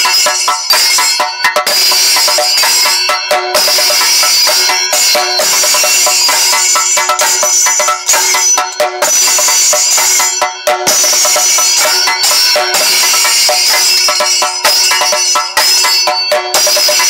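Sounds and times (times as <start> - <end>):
cymbals ringing: 0.0 - 17.0
drums played with sticks: 0.0 - 17.0.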